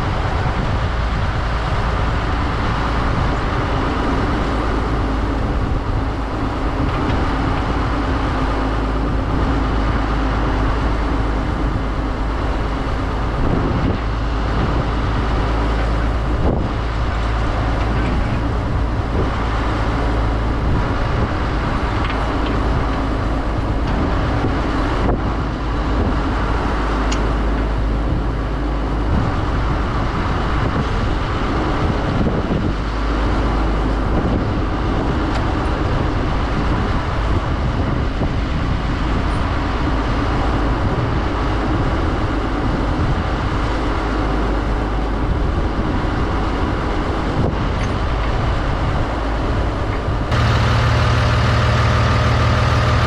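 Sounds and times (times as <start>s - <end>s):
engine deep rumble: 0.0s - 53.0s.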